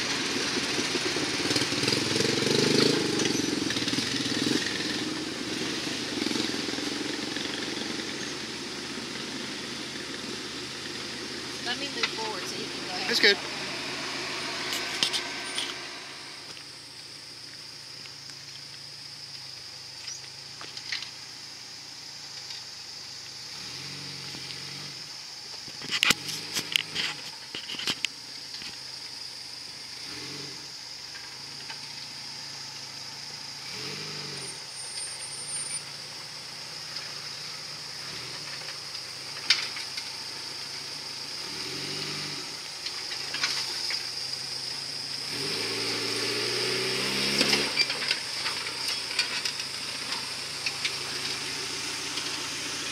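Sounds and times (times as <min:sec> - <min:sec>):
off-road vehicle engine revving: 0:00.0 - 0:18.0, 0:20.0 - 0:52.9.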